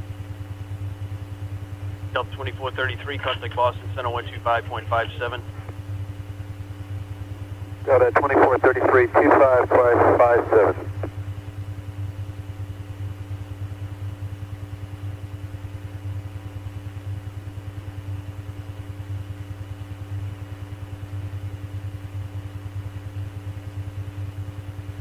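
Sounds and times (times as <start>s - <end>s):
pulsing electrical hum: 0.0s - 25.0s.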